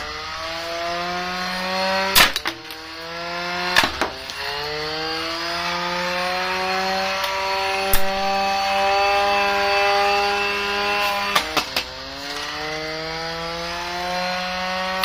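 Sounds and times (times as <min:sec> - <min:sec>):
robot weapon motor whining: 0:00.0 - 0:15.0.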